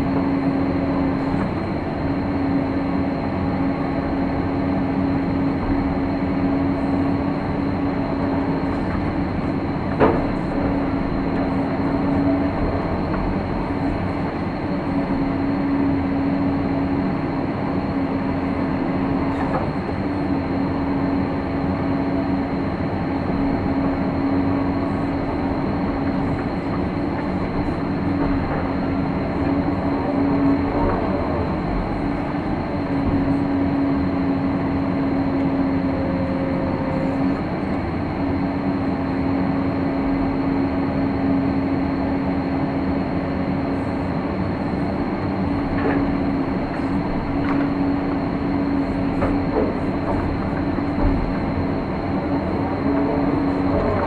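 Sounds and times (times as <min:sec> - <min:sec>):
excavator engine and hydraulics: 0:00.0 - 0:54.0
steady hum: 0:00.0 - 0:54.0.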